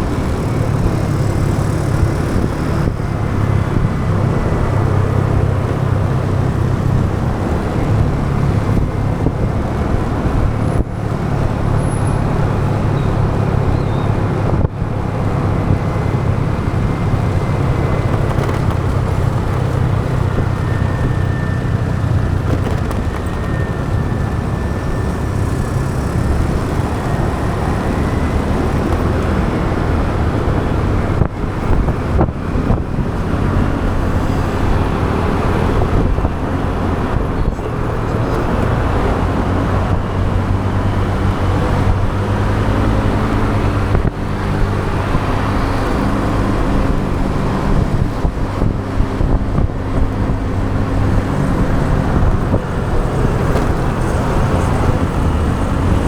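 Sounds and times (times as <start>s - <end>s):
motorbike engine hum: 0.0s - 56.0s
road and wind noise: 0.0s - 56.0s.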